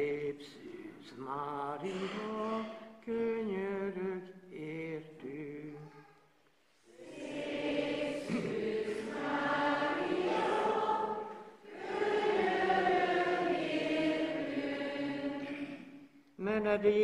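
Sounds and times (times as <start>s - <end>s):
congregation singing: 0.0s - 5.9s, 6.7s - 17.0s.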